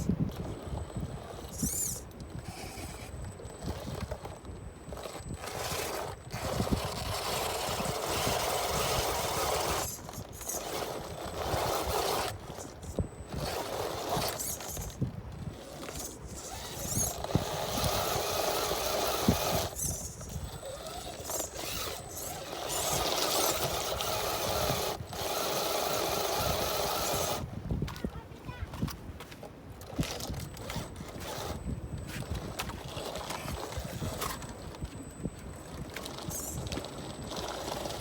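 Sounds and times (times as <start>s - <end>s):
electric motor and gears whirring: 0.0s - 38.0s.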